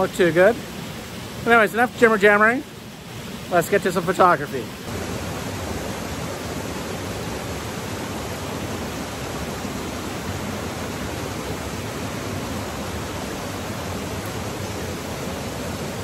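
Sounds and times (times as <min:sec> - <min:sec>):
river running over rocks: 0:00.0 - 0:16.0
waterfall rushing: 0:00.0 - 0:16.0.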